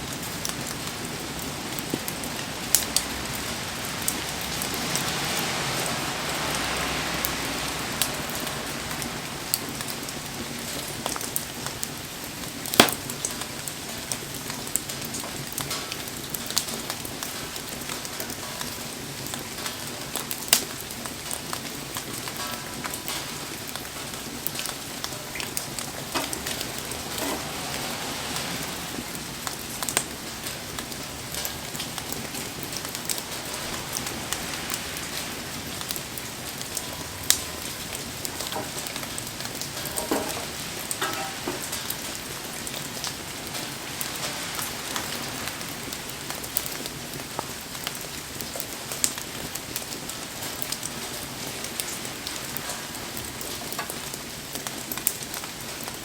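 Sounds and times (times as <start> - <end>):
steady rain falling: 0.0 - 56.0
wood fire crackling and popping: 7.2 - 56.0.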